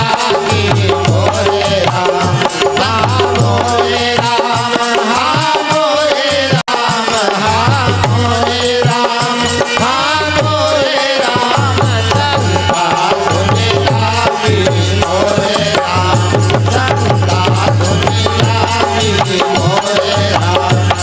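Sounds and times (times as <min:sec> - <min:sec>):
hand drum beat: 0:00.0 - 0:21.0.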